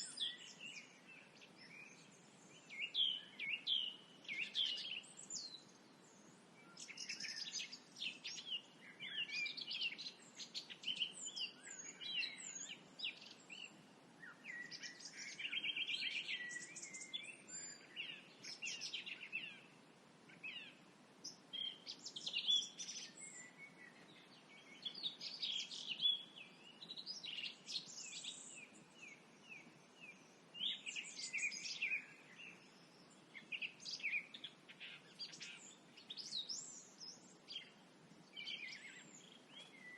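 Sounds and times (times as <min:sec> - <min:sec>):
songbirds whistling and trilling: 0:00.0 - 0:39.9.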